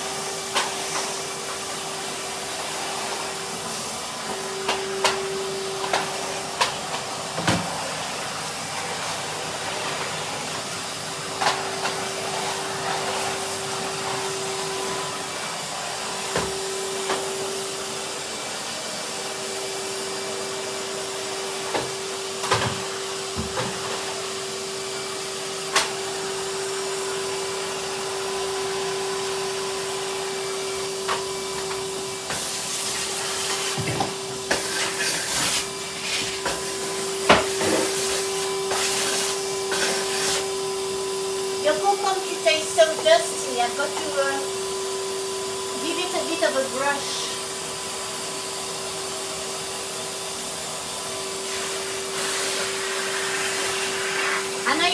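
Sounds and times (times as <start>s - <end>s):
vacuum cleaner motor and suction: 0.0s - 54.9s.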